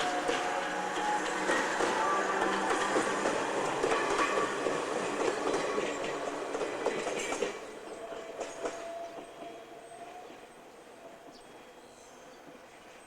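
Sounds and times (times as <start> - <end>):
electric train running on rails: 0.0 - 13.0.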